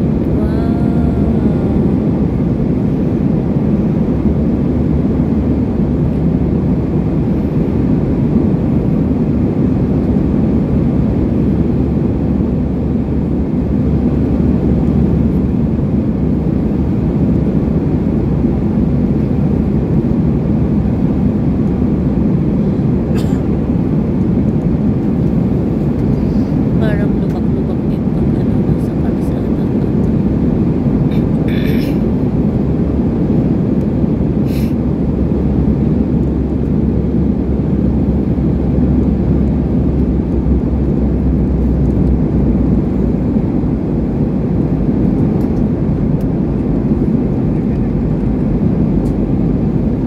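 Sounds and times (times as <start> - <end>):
jet cabin low rumble: 0.0 - 50.0.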